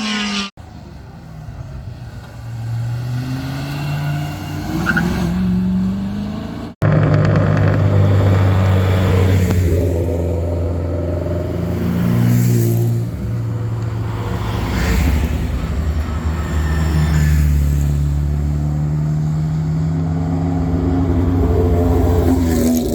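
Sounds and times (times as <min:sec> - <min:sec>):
race car engine at full throttle: 0:00.0 - 0:22.9.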